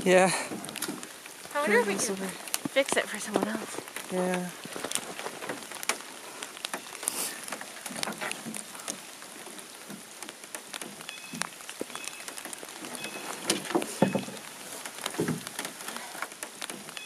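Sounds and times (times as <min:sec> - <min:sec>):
light rain pattering: 0:00.0 - 0:17.0.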